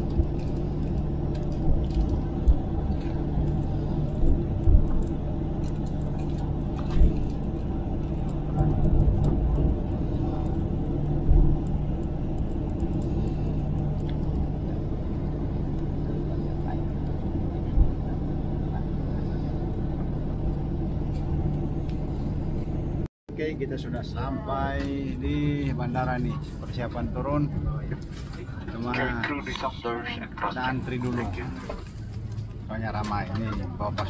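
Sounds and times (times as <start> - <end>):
jet engine and air system rumble: 0.0 - 34.0.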